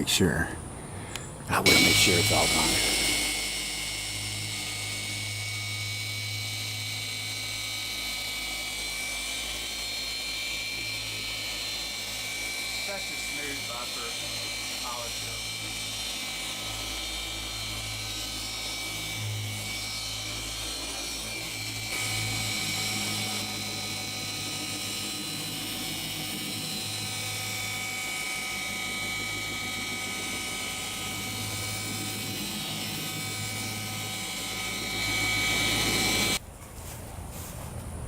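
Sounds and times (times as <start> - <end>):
electric polisher motor whining: 1.1 - 36.4.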